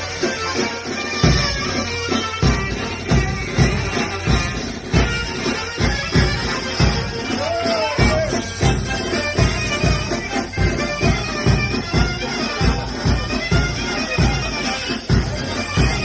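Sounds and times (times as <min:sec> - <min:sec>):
drum beating: 0:00.0 - 0:16.0
reedy wind instrument melody: 0:00.0 - 0:16.0.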